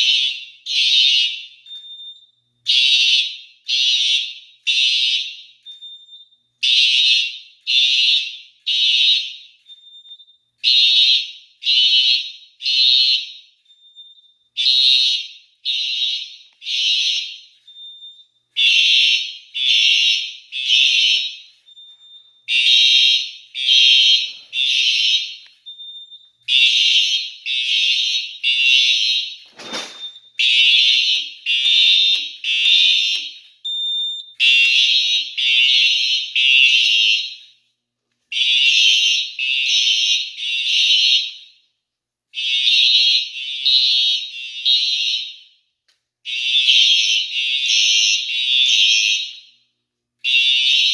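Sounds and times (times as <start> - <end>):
fire alarm horns buzzing: 0.0 - 37.7, 38.3 - 41.7, 42.3 - 50.9.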